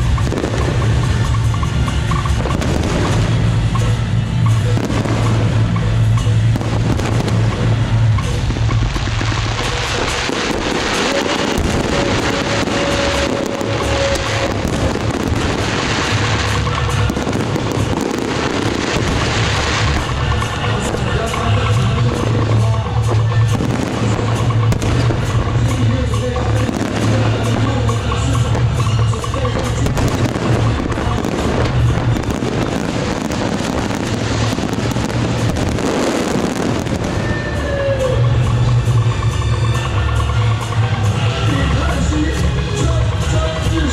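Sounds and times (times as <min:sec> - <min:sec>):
drum-led festival music: 0:00.0 - 0:43.9
fireworks crackling and popping: 0:00.0 - 0:43.9
low rumble of firework bangs: 0:00.0 - 0:43.9.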